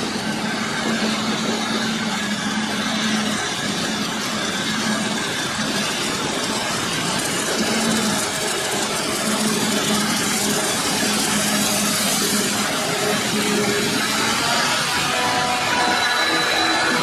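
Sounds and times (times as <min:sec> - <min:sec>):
tractor running: 0:00.0 - 0:17.0.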